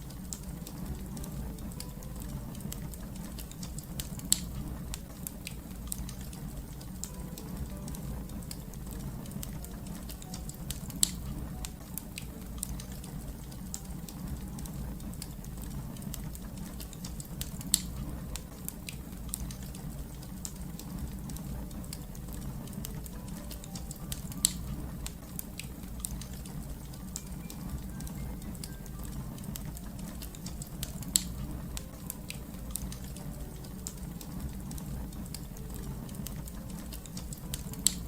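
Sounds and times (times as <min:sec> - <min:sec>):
fire popping: 0:00.0 - 0:38.0
wood fire crackling: 0:00.0 - 0:38.0.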